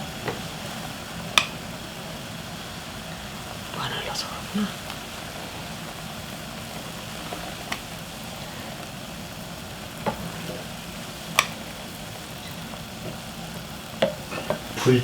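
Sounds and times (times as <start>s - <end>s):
pot boiling hard: 0.0s - 15.0s.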